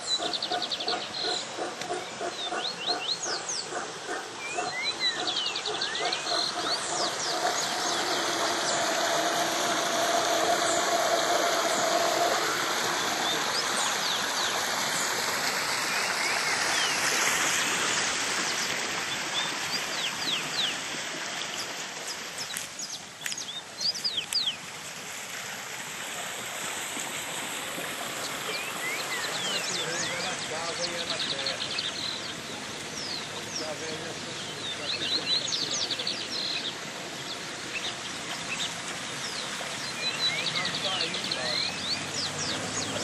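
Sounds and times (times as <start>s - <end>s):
small birds chirping: 0.0s - 20.8s, 21.4s - 24.6s, 28.0s - 43.0s
waterfall running: 0.0s - 43.0s.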